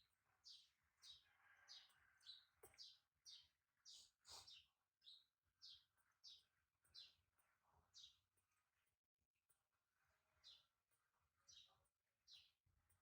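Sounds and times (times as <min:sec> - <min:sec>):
faint bird chirping: 0:00.0 - 0:09.0, 0:09.8 - 0:13.0.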